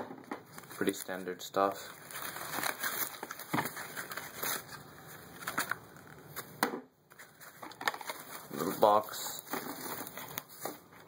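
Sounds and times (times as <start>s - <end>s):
plastic and paper rustling: 0.3s - 6.5s, 7.1s - 11.0s.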